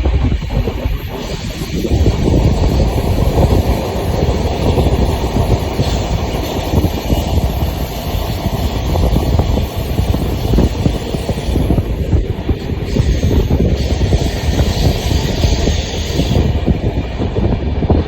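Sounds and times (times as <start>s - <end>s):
train clattering over track: 0.0s - 18.0s
train wheels rumbling on rails: 0.0s - 18.0s.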